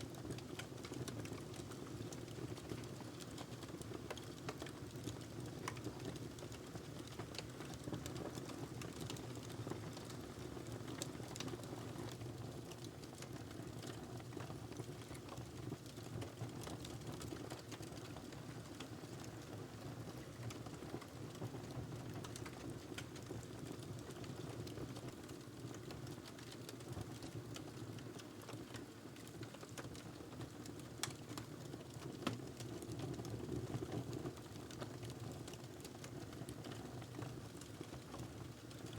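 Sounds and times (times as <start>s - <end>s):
log fire crackling and popping: 0.1s - 19.4s, 22.1s - 38.9s.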